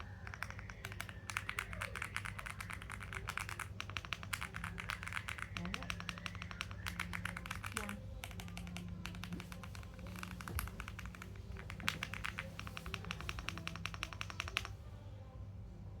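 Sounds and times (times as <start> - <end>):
typing on mechanical keyboard: 0.0 - 14.8.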